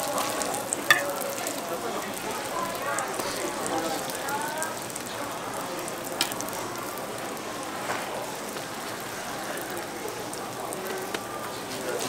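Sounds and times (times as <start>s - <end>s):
pancake sizzling in oil: 0.0s - 12.0s.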